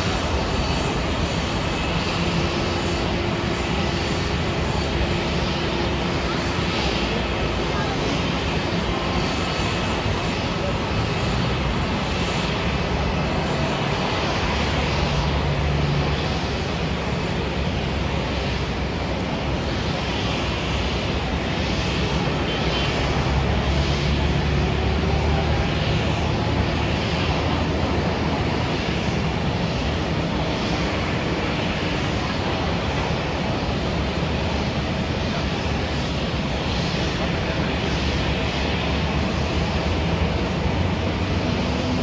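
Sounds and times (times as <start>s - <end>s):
jet aircraft noise: 0.0s - 42.0s.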